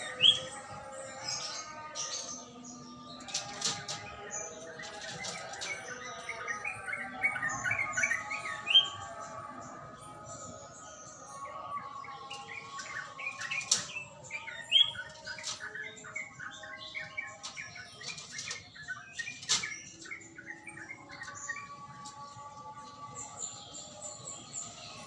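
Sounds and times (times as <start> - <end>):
bird singing chirped notes: 0.0 - 25.0.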